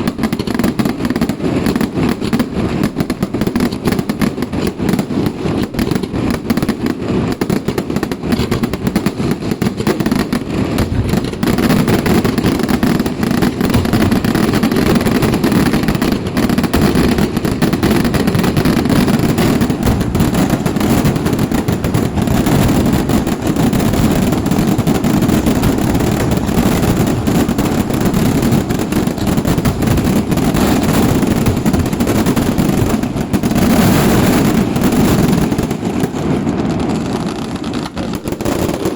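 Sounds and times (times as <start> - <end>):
firecrackers banging rapidly: 0.0 - 38.9.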